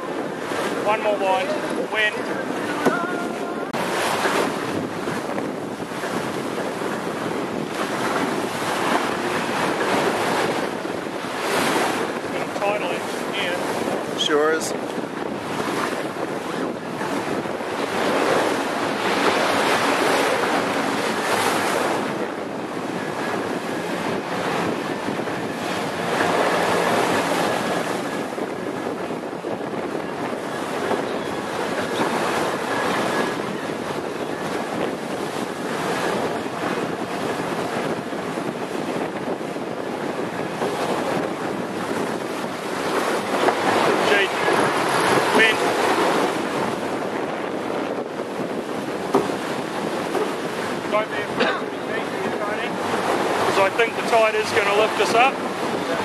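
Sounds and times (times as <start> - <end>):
water rushing along hull: 0.0 - 56.0
wind buffeting microphone: 0.0 - 56.0.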